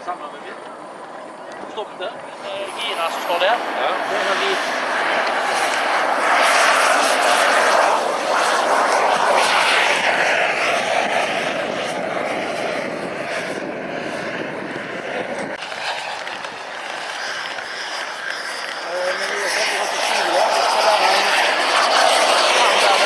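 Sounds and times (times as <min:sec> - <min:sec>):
model jet engines whining: 0:00.0 - 0:23.0.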